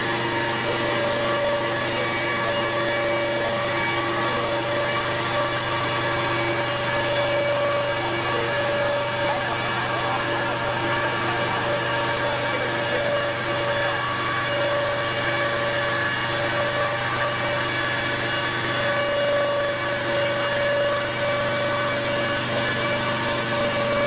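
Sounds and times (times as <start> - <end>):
stone router machine whine: 0.0 - 24.0.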